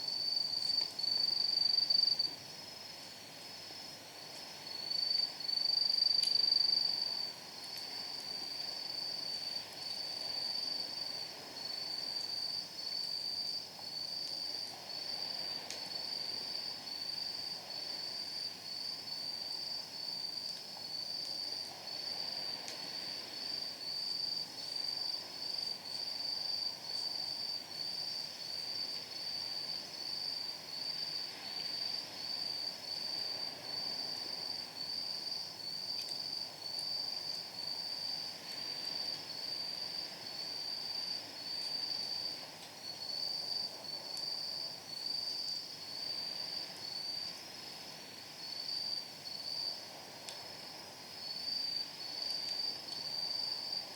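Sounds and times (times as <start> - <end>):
night insects chirping: 0.0 - 53.9.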